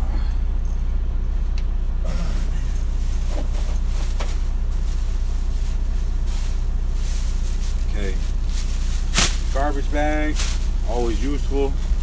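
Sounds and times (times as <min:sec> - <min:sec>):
truck engine idling drone: 0:00.0 - 0:12.0.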